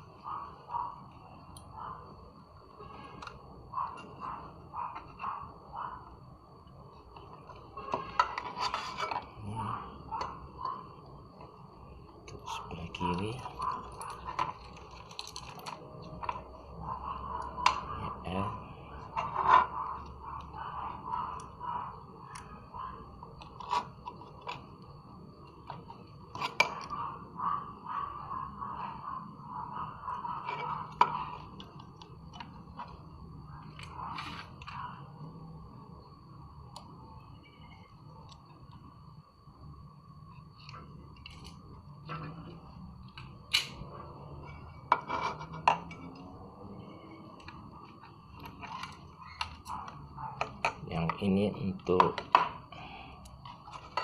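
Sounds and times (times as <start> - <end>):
faint steady tone: 0.0 - 54.0.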